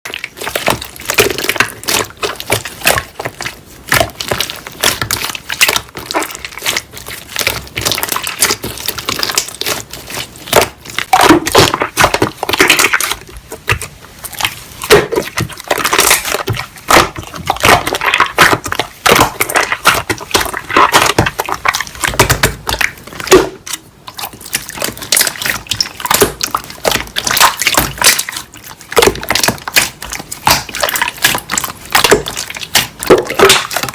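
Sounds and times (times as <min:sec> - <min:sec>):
slime squishing with wet clicks: 0:00.1 - 0:33.9.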